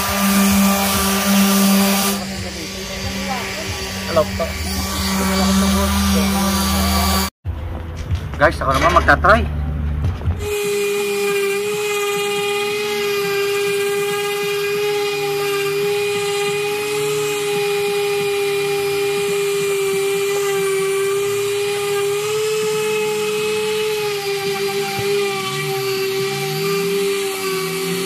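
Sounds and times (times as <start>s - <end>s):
orbital sander motor whine: 0.0s - 7.3s, 10.4s - 28.0s
sanding disc rasping on wood: 0.0s - 7.3s, 10.4s - 28.0s.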